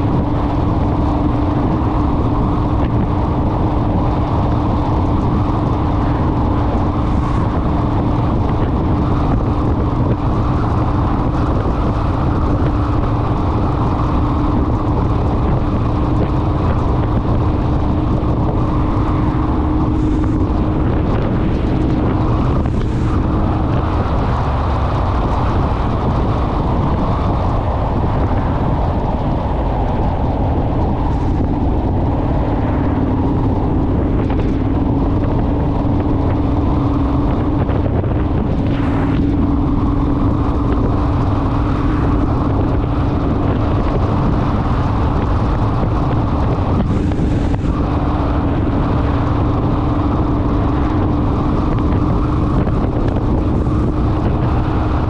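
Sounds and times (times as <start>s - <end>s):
motorcycle engine droning: 0.0s - 55.0s
wind rushing over microphone: 0.0s - 55.0s.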